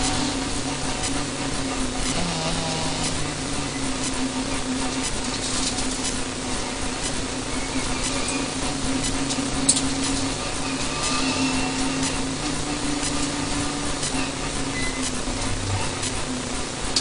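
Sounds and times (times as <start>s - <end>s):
car engine at high revs: 0.0s - 17.0s
road and tyre noise: 0.0s - 17.0s.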